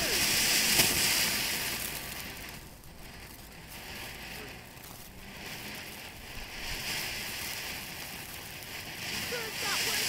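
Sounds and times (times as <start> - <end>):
firework fountain hissing: 0.0 - 10.0.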